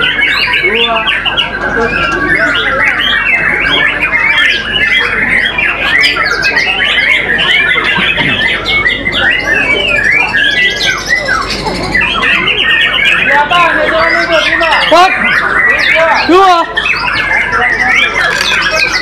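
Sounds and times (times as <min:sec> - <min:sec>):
songbirds whistling and chattering: 0:00.0 - 0:19.0.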